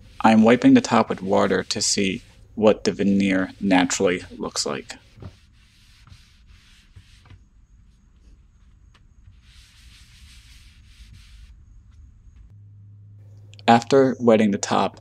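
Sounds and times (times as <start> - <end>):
low steady hum: 0.0 - 8.9, 10.2 - 15.0
towel rubbing on tabletop: 0.0 - 12.1.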